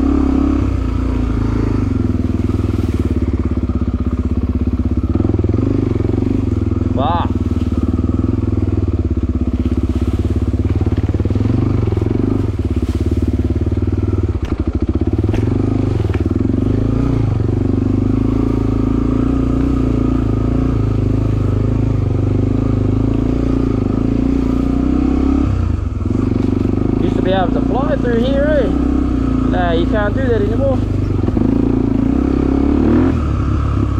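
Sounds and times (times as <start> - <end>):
dirt bike engine running: 0.0 - 33.9.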